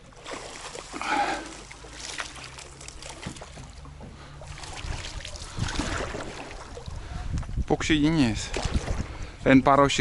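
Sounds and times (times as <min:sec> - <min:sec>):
water sloshing and trickling: 0:00.0 - 0:09.6.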